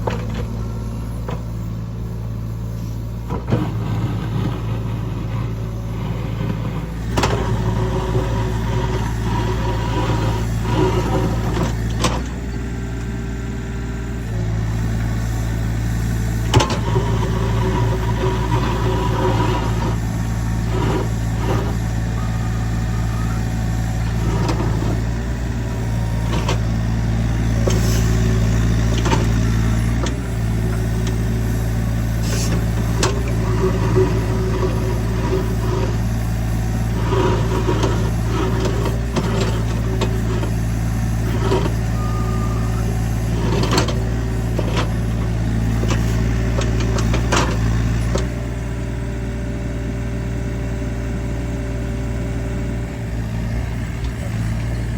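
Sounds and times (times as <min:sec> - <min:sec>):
heavy equipment engine running: 0:00.0 - 0:54.9.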